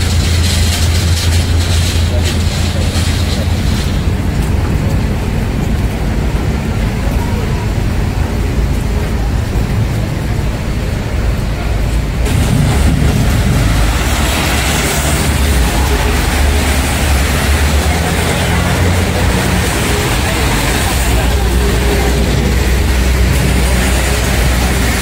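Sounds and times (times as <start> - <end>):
low rumble of vehicles: 0.0 - 25.0
tyres hissing on wet asphalt: 0.0 - 25.0.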